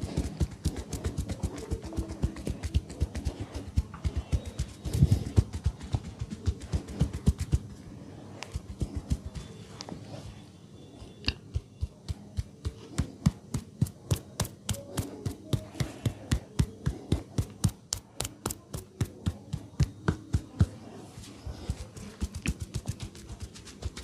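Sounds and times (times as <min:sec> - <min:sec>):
hands slapping during massage: 0:00.0 - 0:07.8, 0:08.4 - 0:09.9, 0:11.5 - 0:24.0.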